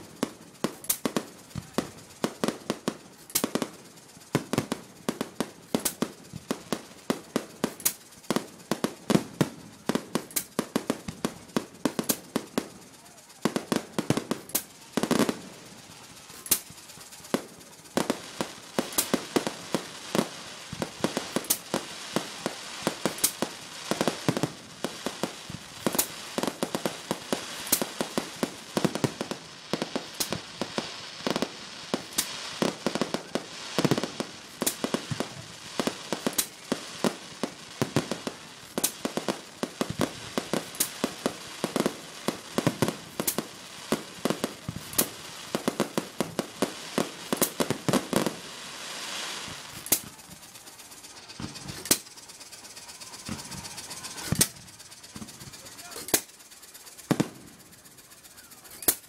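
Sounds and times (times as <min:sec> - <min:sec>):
firework crackle: 0:00.0 - 0:59.0
firework shell bursts: 0:00.0 - 0:59.0.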